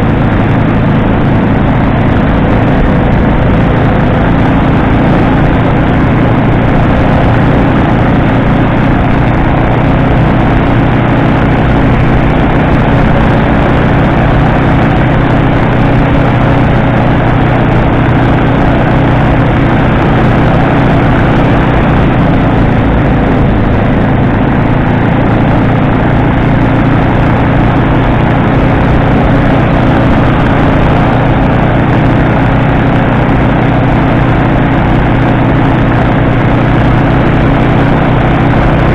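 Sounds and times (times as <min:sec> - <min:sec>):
engine and propeller drone: 0:00.0 - 0:38.9.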